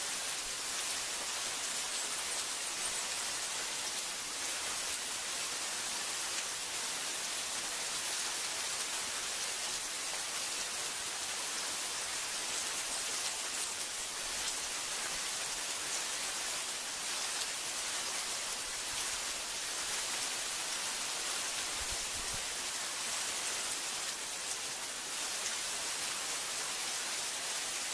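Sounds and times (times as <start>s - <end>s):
heavy rain on foliage: 0.0s - 27.9s.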